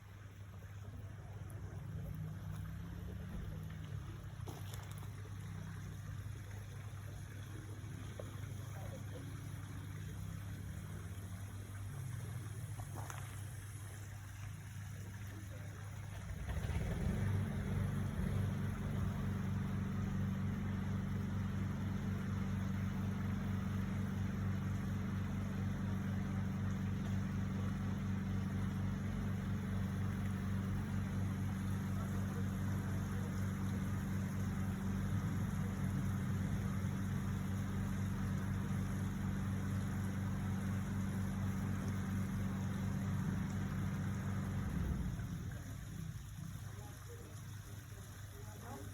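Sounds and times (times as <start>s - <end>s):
low motor hum: 0.0s - 48.9s.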